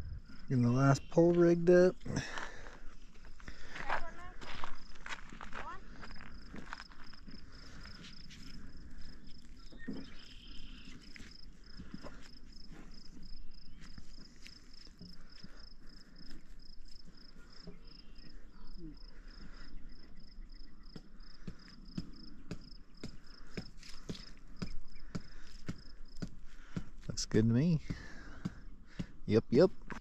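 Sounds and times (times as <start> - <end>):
insect chirping: 0.0 - 27.1.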